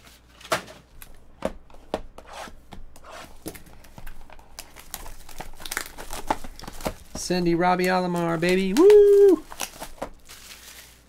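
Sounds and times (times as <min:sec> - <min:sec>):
plastic shrink wrap crinkling: 0:00.0 - 0:11.0.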